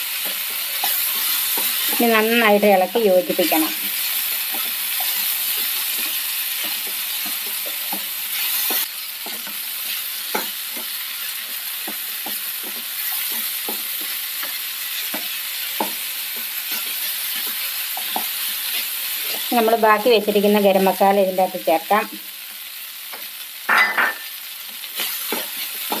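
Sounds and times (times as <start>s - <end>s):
stir-fry sizzling in a pan: 0.0s - 26.0s.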